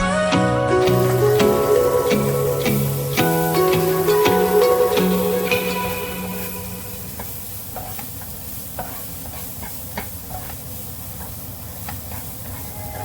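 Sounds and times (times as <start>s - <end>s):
food sizzling in a pot: 0.8s - 13.0s.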